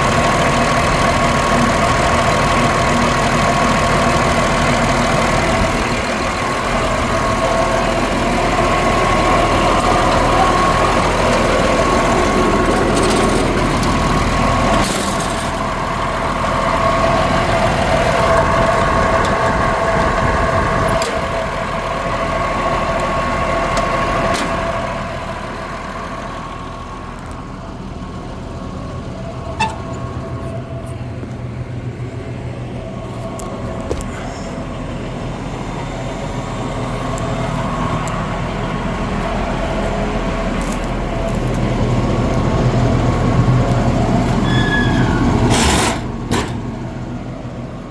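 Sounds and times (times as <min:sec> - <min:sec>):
excavator diesel engine running: 0:00.0 - 0:47.9
steady whine: 0:00.0 - 0:47.9.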